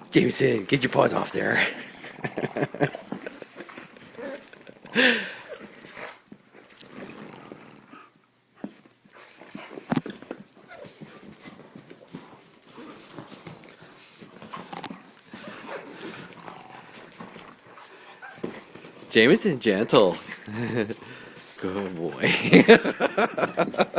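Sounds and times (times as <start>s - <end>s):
dogs scuffling: 0.0s - 7.9s, 8.6s - 23.9s.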